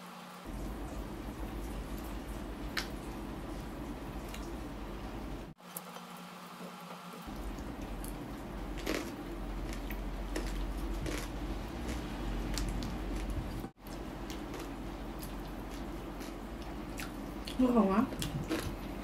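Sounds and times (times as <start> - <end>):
steady low hum: 0.4 - 5.6, 7.2 - 19.0.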